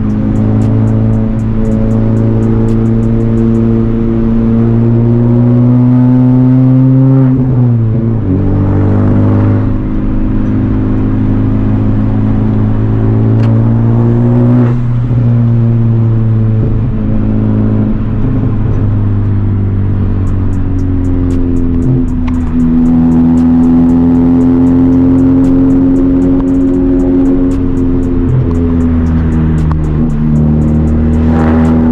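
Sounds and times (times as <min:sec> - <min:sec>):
car engine under way: 0:00.0 - 0:31.9.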